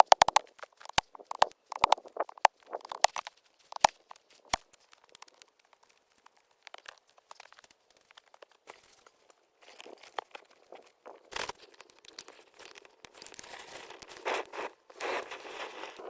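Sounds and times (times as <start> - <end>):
sharp cracks and crunches: 0.0 - 9.0, 9.7 - 16.0.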